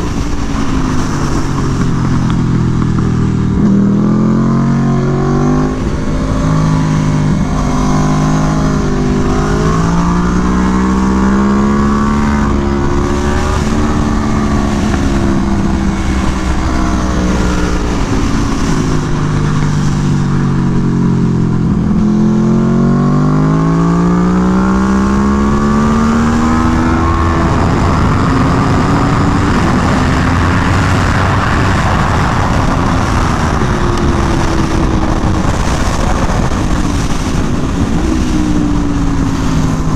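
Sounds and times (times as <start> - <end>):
heavy wind noise: 0.0 - 39.9
motorcycle engine revving: 0.0 - 39.9.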